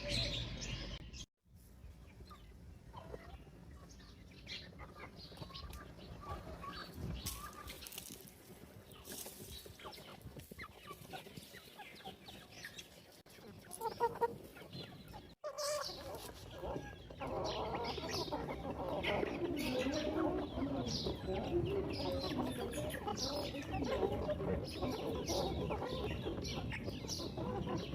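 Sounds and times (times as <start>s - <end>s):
chickens clucking: 0.0s - 27.9s.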